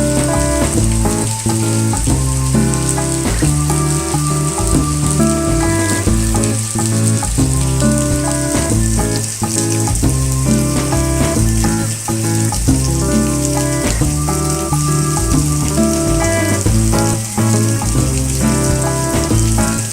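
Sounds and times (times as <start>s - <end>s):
instrumental music with bass line: 0.0s - 19.9s
rain falling: 0.0s - 19.9s.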